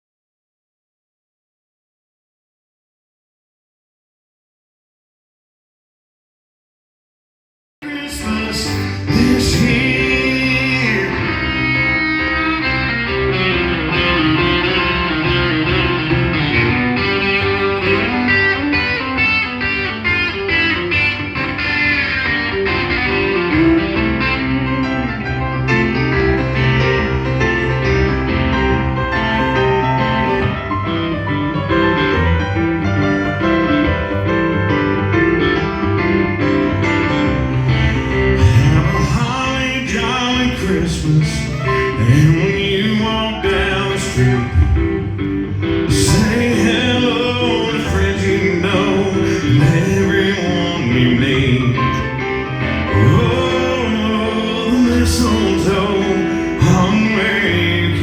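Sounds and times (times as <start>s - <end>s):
electric guitar: 7.8s - 58.0s
instrumental christmas music with piano: 7.8s - 58.0s.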